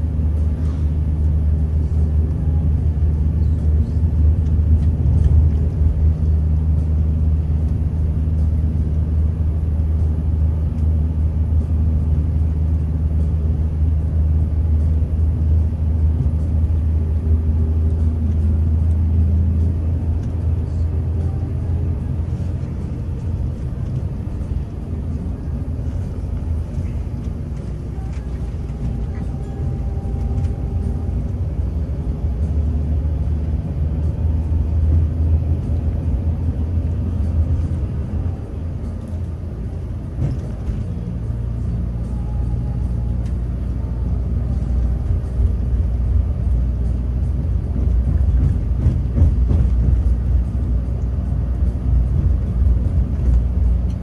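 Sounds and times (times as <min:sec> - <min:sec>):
diesel engine droning: 0:00.0 - 0:54.0
road rumble: 0:00.0 - 0:54.0.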